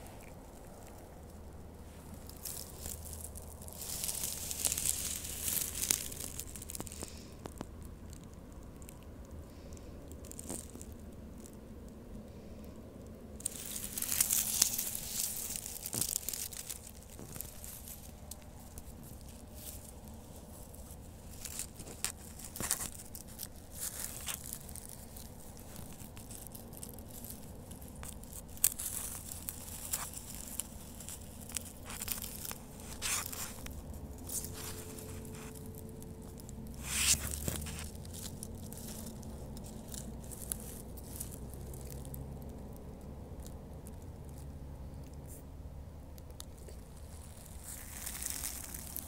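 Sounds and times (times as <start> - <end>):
pine needles and twigs crackling: 0.0 - 49.0.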